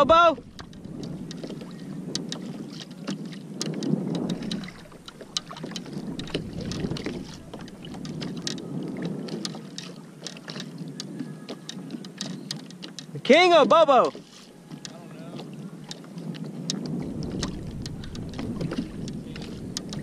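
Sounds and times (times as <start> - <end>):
wind on microphone: 0.0 - 13.3, 14.1 - 20.0
water lapping against kayak hull: 0.0 - 20.0
small scattered clicks: 0.5 - 15.0, 15.8 - 20.0.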